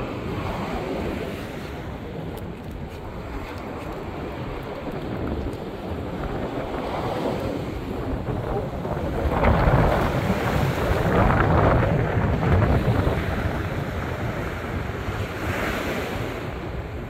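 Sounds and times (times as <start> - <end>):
waves breaking and washing: 0.0 - 17.0
wind buffeting microphone: 0.0 - 17.0.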